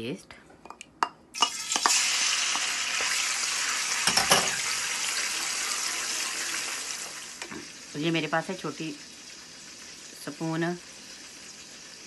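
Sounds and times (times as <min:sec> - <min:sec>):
paste sizzling in hot oil: 0:01.4 - 0:12.0.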